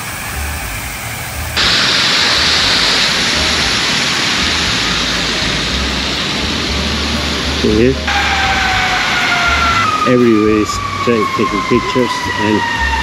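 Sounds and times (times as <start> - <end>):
fountain water splashing into pool: 0.0 - 10.6.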